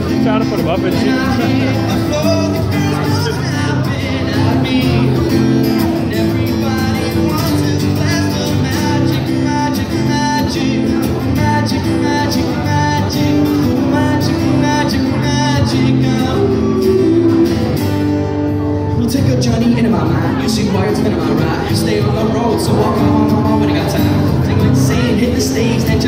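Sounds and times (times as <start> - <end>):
acoustic guitar: 0.0 - 26.0
man singing into a microphone: 0.0 - 26.0.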